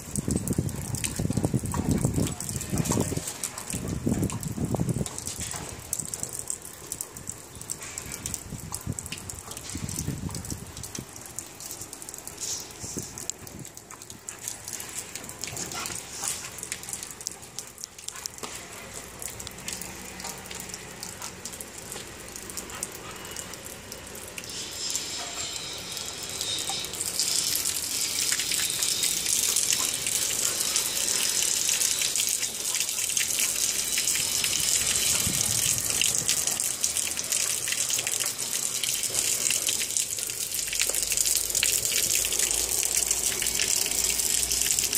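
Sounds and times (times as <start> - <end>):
water running: 0.0 - 44.9.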